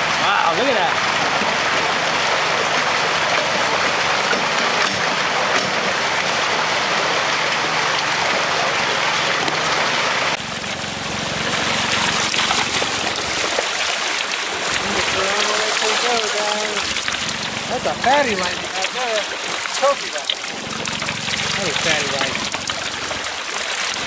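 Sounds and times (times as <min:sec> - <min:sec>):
water gushing and splashing: 0:00.0 - 0:24.0.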